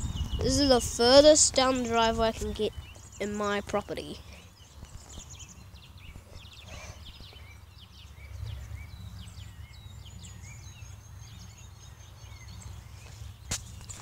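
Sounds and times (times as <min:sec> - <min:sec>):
low wind rumble: 0:00.0 - 0:13.9
small birds chirping: 0:00.0 - 0:14.0.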